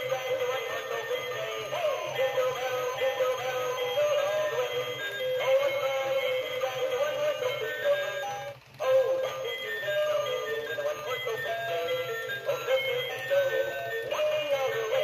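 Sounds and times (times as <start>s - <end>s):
electronic toy song with synthetic singing: 0.0s - 15.0s.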